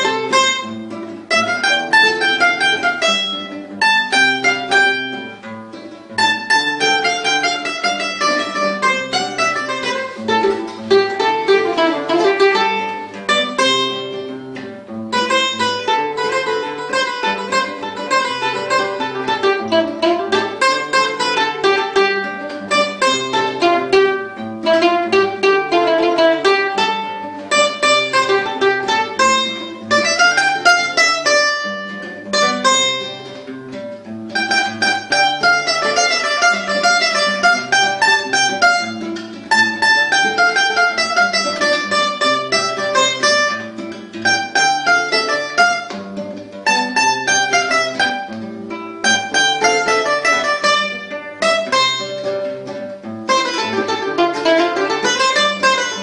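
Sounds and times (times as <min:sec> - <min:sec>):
nylon-string guitar chords: 0:00.0 - 0:56.0.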